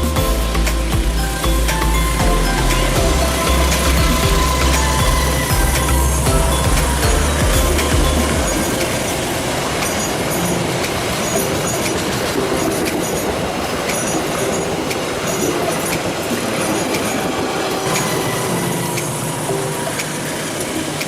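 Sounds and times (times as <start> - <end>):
train wheels rumbling on rails: 0.0 - 21.0
high-pitched wheel squeals: 0.6 - 21.0.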